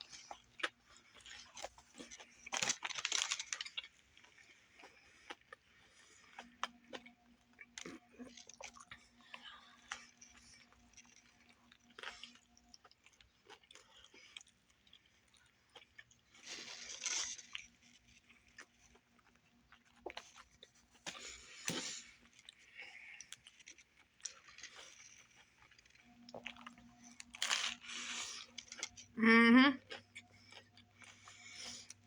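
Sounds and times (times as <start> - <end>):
person chewing a sandwich: 0.0 - 29.2, 29.8 - 32.0.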